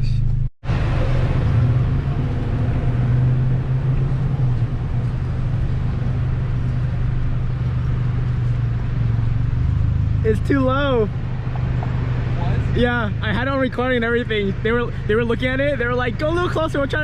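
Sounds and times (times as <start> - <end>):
car engine low drone: 0.0 - 17.0.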